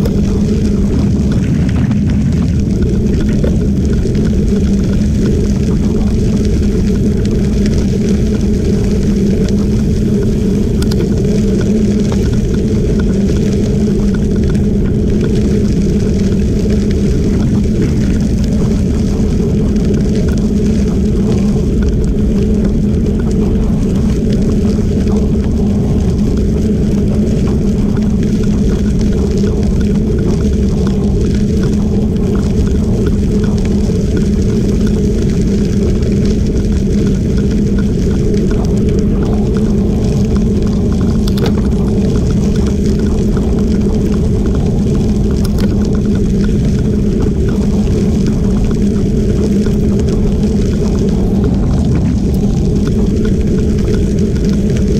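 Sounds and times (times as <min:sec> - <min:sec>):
small stones ticking: 0:00.0 - 0:54.9
wind on microphone: 0:00.0 - 0:54.9.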